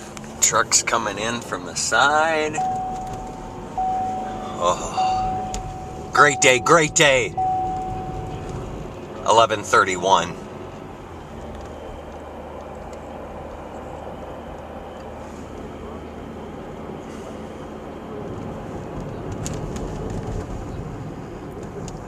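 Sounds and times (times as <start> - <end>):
car driving cabin rumble: 0.0 - 22.0.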